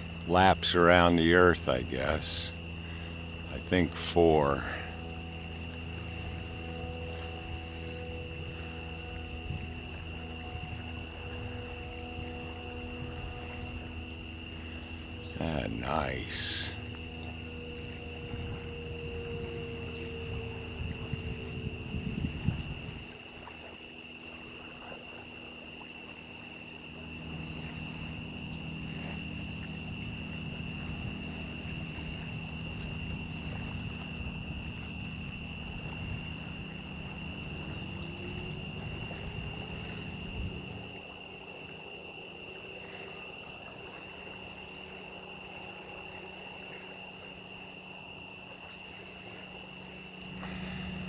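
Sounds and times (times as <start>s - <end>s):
insects trilling: 0.0s - 51.0s.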